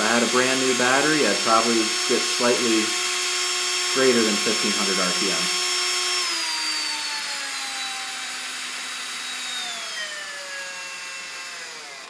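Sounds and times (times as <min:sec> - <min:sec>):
cordless drill motor whine: 0:00.0 - 0:12.0.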